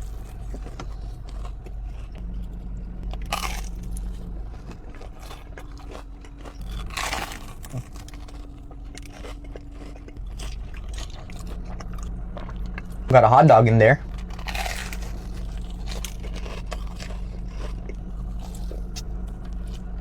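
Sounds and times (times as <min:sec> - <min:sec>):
crunchy food chewing: 0:00.0 - 0:13.1, 0:14.0 - 0:20.0.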